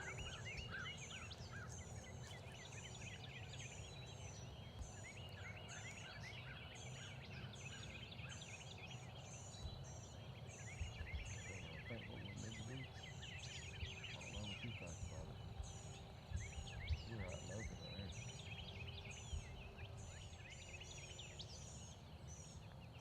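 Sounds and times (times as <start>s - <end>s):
birds chirping and twittering: 0.0s - 23.0s.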